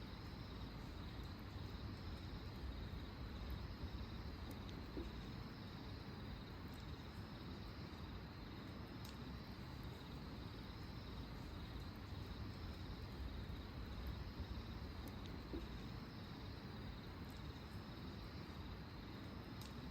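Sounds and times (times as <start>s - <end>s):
campfire crackling: 0.0s - 19.9s
crickets trilling: 0.0s - 19.9s.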